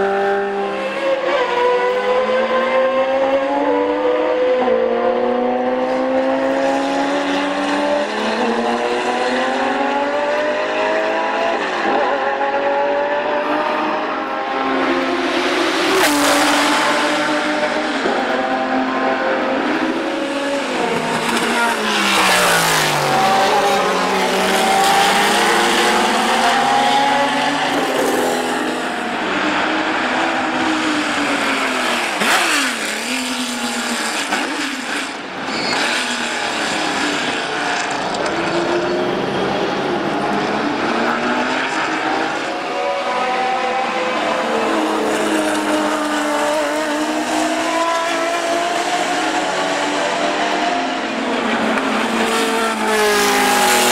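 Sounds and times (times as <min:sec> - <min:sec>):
racing car engine accelerating: 0:00.0 - 0:53.9.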